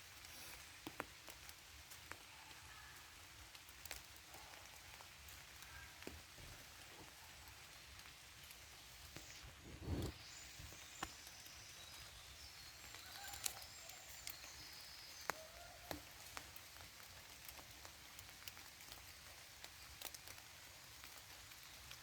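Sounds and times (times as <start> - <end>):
raindrops ticking on leaves: 0.0 - 9.6, 10.2 - 22.0
soft rain patter: 0.0 - 22.0.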